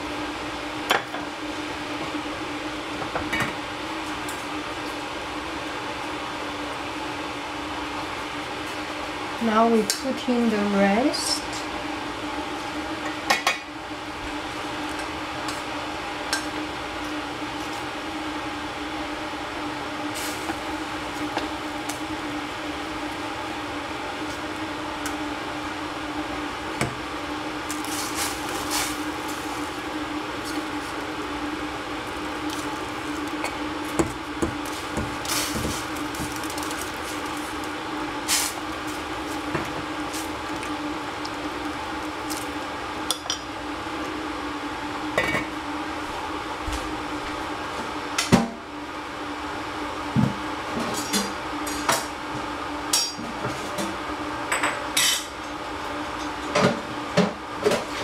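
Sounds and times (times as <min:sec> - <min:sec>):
steady hum: 0:00.0 - 0:53.2.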